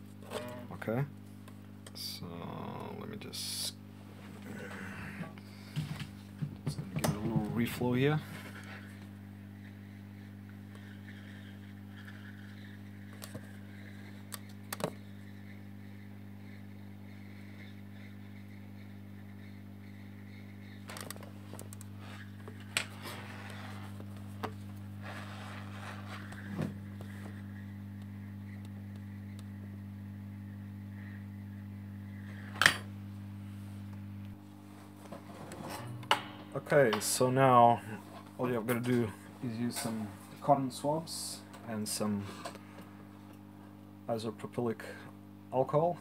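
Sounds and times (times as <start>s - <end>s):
hot air station humming: 0.0s - 45.9s.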